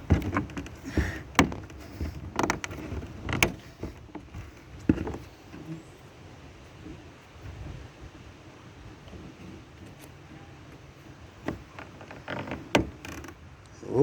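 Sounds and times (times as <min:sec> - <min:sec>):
faint handling noise: 0:00.0 - 0:13.8.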